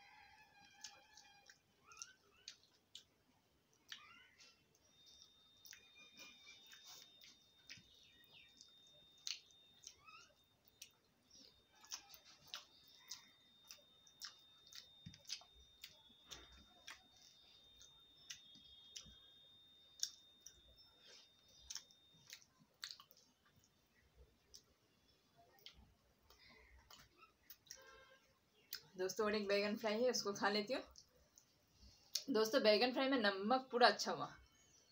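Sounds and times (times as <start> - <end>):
person chewing food: 0.5 - 28.9.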